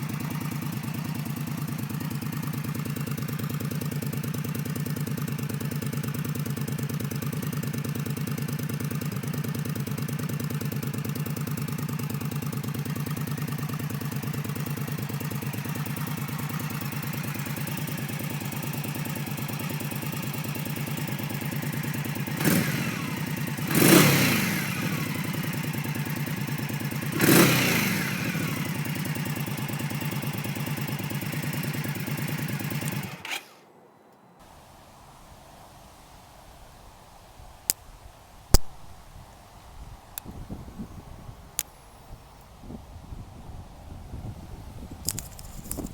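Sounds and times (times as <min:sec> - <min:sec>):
motorcycle engine idling and revving: 0:00.0 - 0:33.7, 0:39.8 - 0:45.9.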